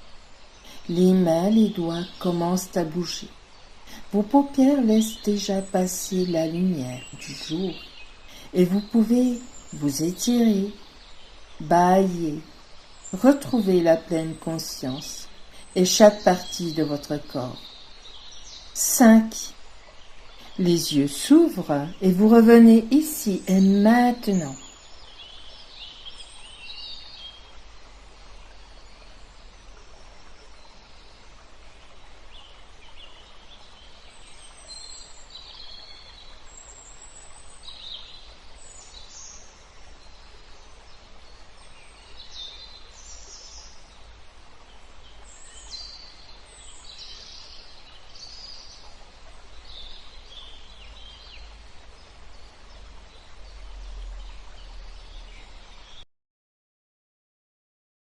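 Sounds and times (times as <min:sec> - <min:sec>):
birds chirping: 0:00.0 - 0:56.0
outdoor background hiss: 0:00.0 - 0:56.0.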